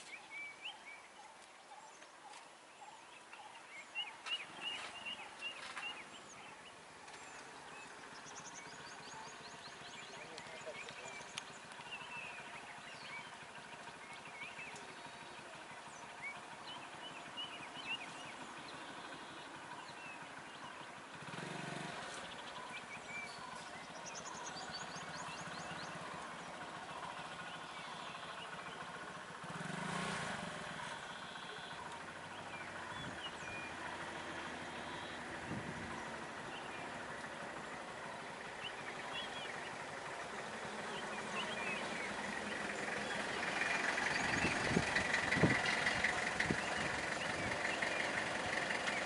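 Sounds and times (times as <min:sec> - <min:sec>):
vehicle engine noise: 0:00.0 - 0:49.0.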